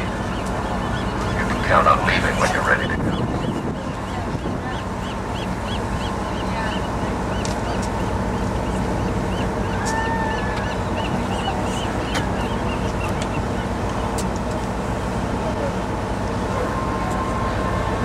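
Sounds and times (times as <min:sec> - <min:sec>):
boat engine running: 0:00.0 - 0:18.0
water noise: 0:00.0 - 0:18.0
wind: 0:00.0 - 0:18.0.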